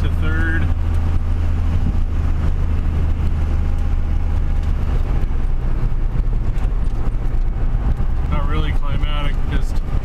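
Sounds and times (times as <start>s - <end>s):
diesel engine drone: 0.0s - 10.0s
road noise: 0.0s - 10.0s.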